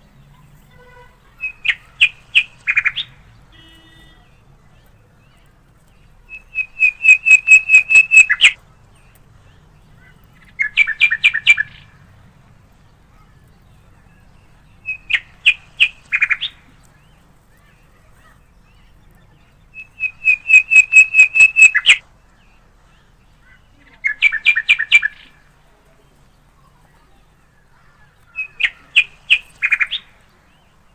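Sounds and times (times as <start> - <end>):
bird chirping: 1.3 - 11.9, 12.8 - 25.5, 27.0 - 30.9.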